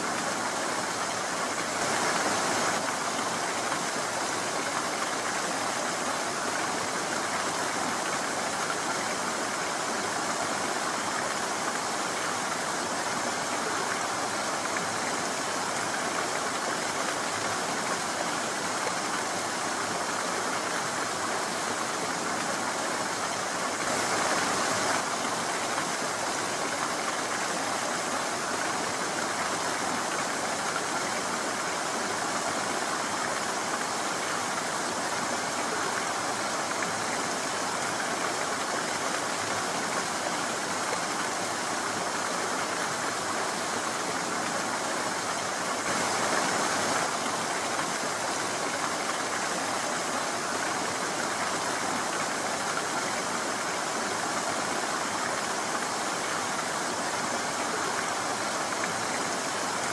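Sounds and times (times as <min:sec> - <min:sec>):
stream running over stones: 0:00.0 - 0:59.9.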